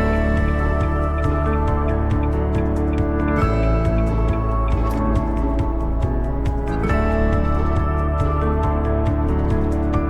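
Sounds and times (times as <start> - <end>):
music with held chords: 0.0 - 10.0.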